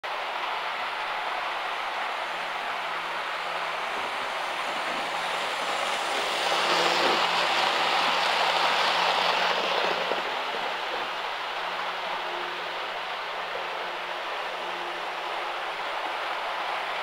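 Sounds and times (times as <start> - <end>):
model train running past: 0.1 - 17.0.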